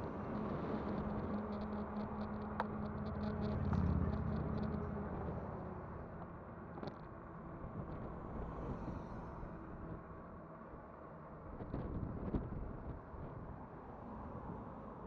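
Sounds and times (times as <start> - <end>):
wind and tyre rumble: 0.0 - 15.0.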